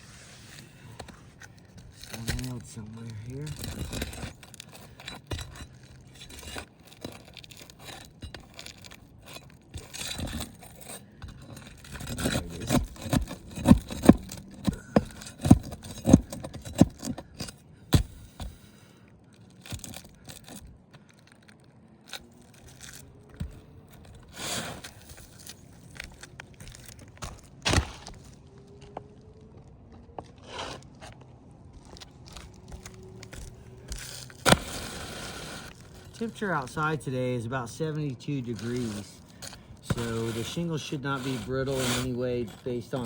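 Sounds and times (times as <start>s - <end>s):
shingles scraping and cracking: 0.0s - 28.9s, 30.2s - 43.0s.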